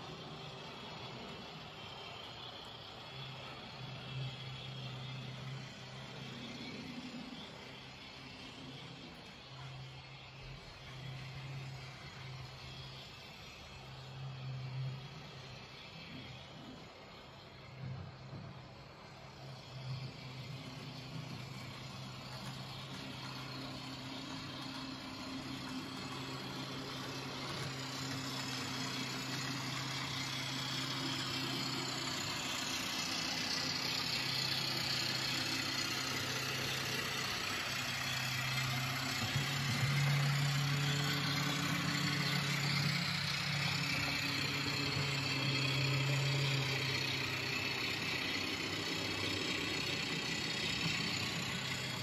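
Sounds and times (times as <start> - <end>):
model train motor hum: 0.0 - 52.0
wheels hissing on rails: 0.0 - 52.0.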